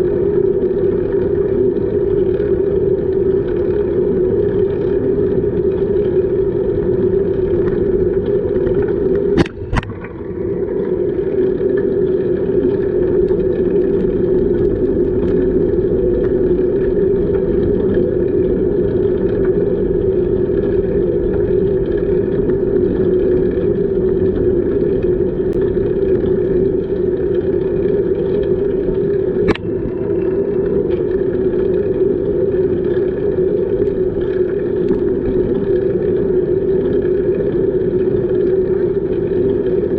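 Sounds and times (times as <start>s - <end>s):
bicycle tyres rolling: 0.2s - 39.9s.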